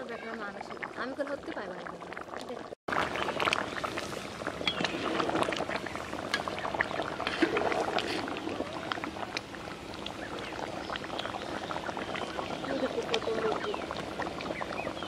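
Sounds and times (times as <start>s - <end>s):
curry boiling and bubbling: 0.0s - 15.0s.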